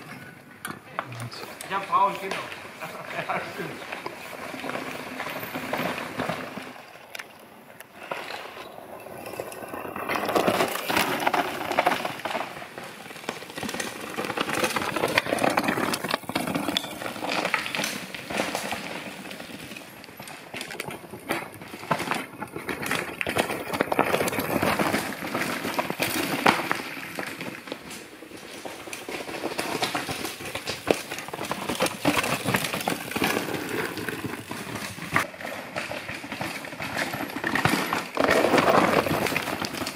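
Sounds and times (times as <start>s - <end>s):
bike tyres crunching over rock: 0.8s - 39.9s.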